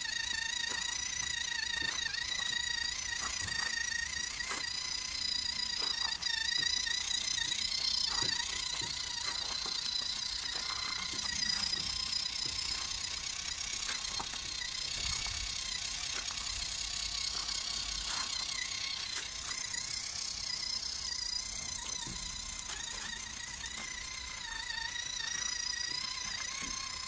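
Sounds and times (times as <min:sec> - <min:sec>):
toy truck motor whining: 0:00.0 - 0:27.0.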